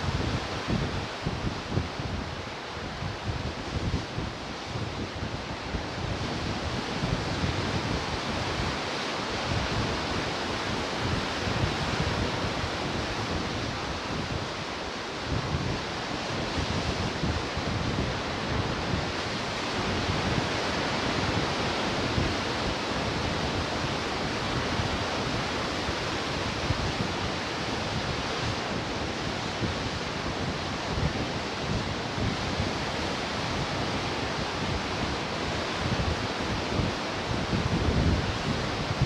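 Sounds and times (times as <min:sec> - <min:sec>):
ocean surf washing on shore: 0:00.0 - 0:39.0
wind gusts on microphone: 0:00.0 - 0:39.0.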